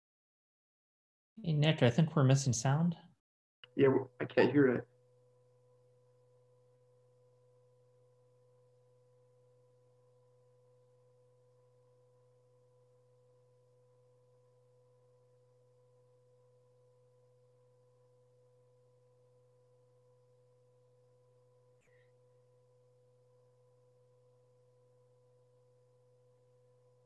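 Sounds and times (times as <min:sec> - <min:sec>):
faint steady electronic tone: 0:03.0 - 0:27.0.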